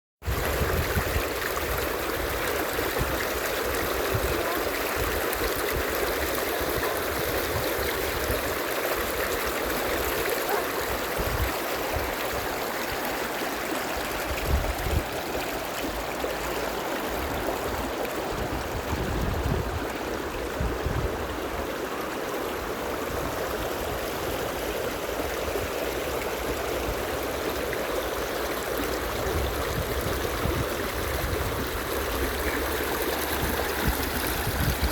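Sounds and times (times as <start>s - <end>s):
water running in shallow stream: 0.2s - 34.9s.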